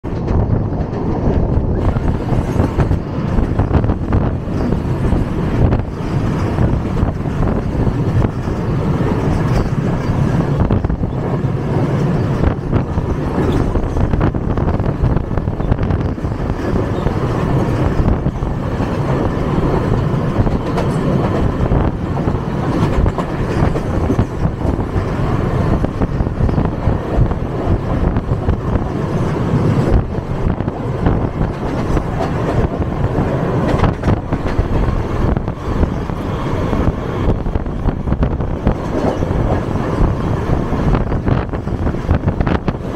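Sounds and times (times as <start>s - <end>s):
sharp clicks and clatter: 0.0s - 42.9s
train wheels rumbling on rails: 0.0s - 42.9s.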